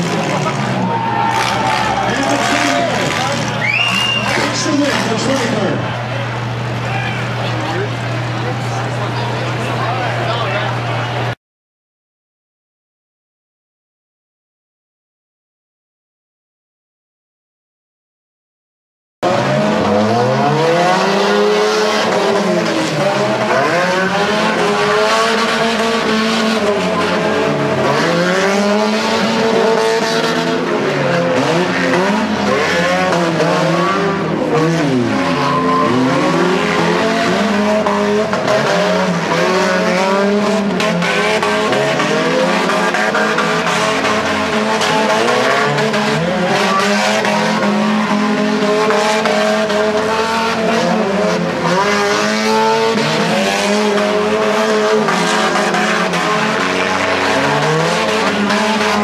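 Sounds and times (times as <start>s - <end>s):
car engines revving: 0.0s - 11.4s, 19.2s - 59.0s.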